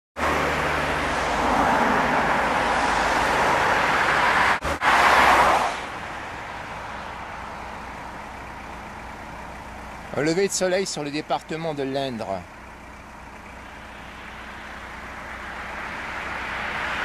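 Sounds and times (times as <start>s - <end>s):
road traffic noise: 0.2s - 17.0s.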